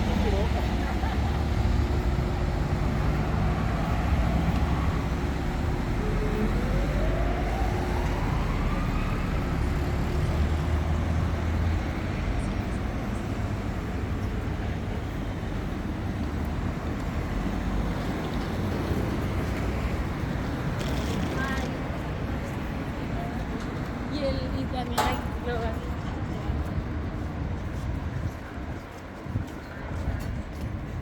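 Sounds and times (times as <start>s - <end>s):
passing vehicles rumble: 0.0s - 31.0s.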